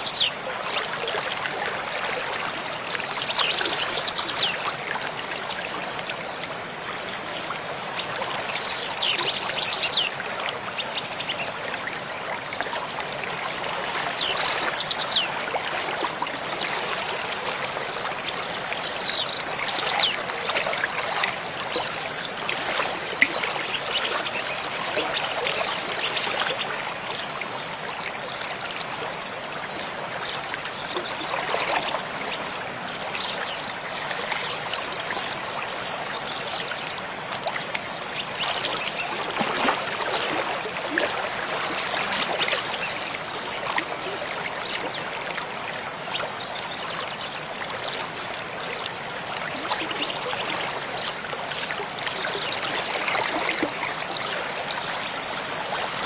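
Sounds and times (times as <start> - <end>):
stream water rushing: 0.0 - 56.0
water splashing and gurgling: 0.0 - 56.0.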